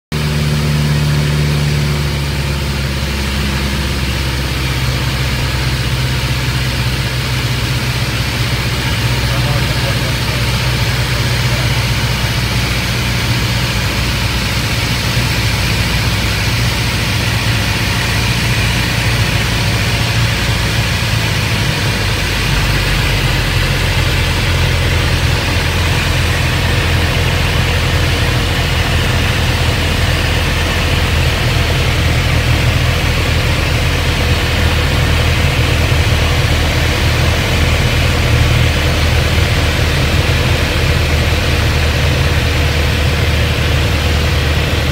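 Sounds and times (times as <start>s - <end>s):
propeller plane engine idling: 0.1s - 44.9s.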